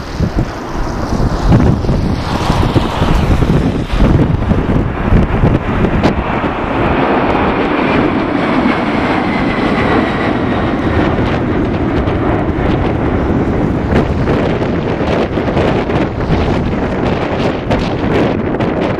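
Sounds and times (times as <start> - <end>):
faint high jet whine: 0.0 - 18.6
jet engine roar: 0.0 - 18.9.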